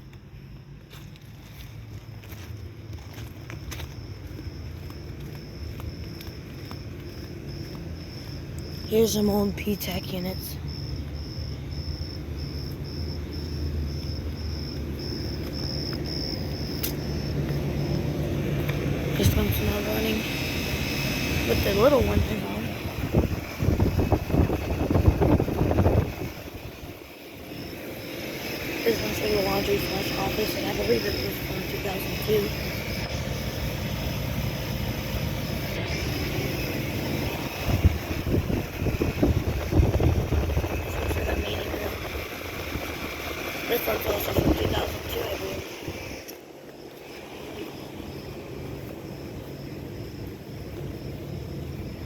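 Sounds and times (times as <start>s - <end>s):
insect chirping: 0.0s - 52.0s
air conditioner humming: 5.6s - 52.0s.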